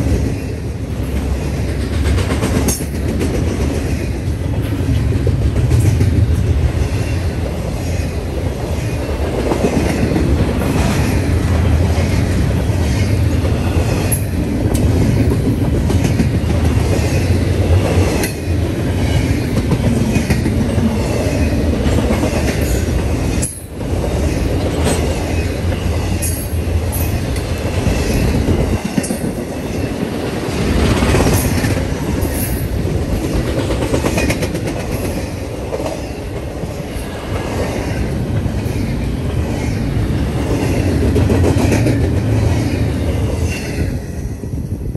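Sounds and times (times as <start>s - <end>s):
train wheels rumbling on rails: 0.0s - 44.9s
wheels clicking over rail joints: 1.0s - 39.6s.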